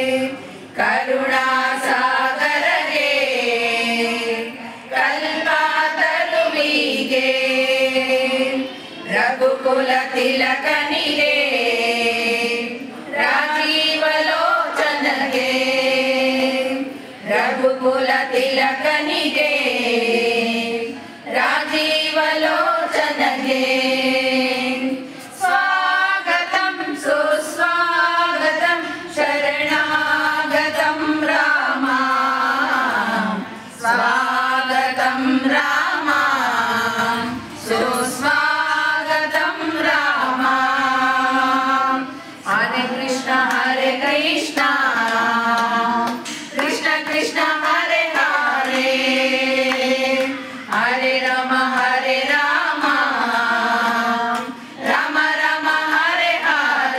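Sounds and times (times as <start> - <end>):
women singing together: 0.0 - 56.9.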